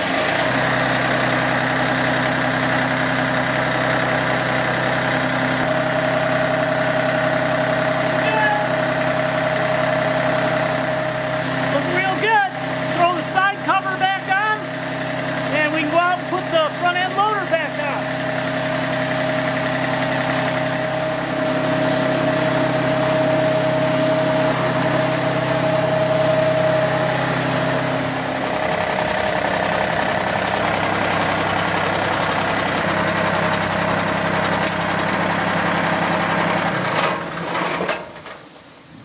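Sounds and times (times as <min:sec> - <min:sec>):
tractor diesel engine idling: 0:00.0 - 0:37.6.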